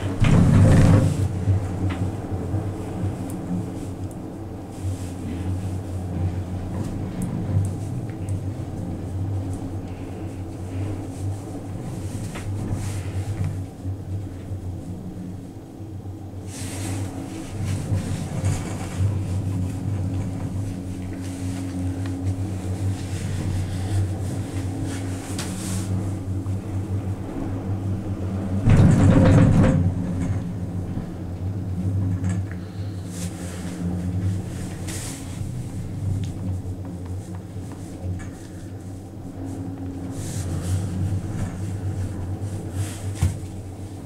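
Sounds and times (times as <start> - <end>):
gondola cabin hum and rumble: 0.0 - 44.0.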